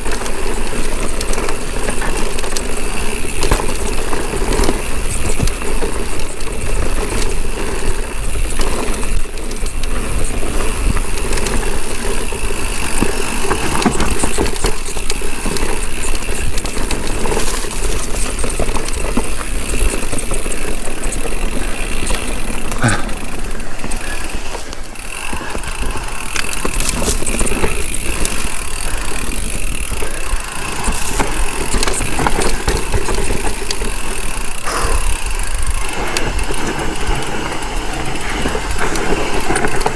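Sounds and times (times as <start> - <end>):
mountain bike clattering over rocks: 0.0 - 39.9.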